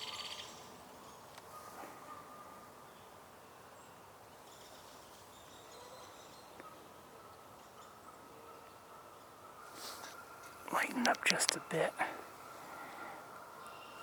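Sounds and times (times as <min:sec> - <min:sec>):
distant bird calls: 0:00.0 - 0:14.0.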